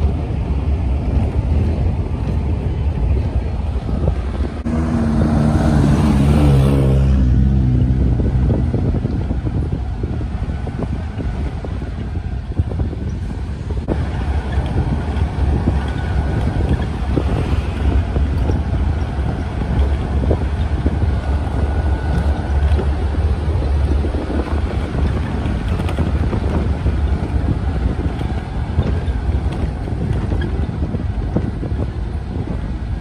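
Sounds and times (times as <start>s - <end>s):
vehicle rumbling on gravel: 0.0s - 33.0s
wind buffeting microphone: 0.0s - 33.0s.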